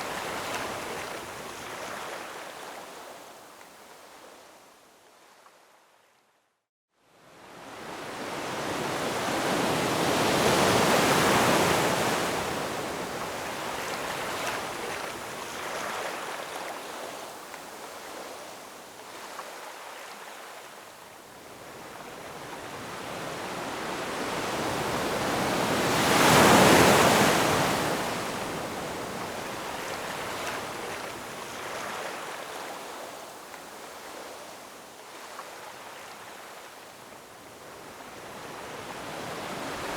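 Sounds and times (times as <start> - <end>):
ocean waves breaking on shore: 0.0 - 3.4, 7.1 - 39.9.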